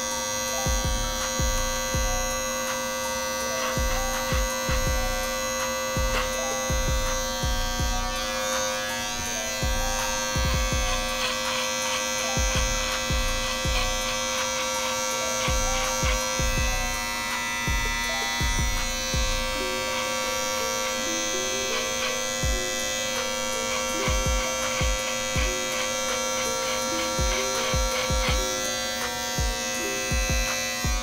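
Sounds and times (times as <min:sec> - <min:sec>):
background music with a beat: 0:00.0 - 0:31.0
electric hair clippers buzzing: 0:00.0 - 0:31.0.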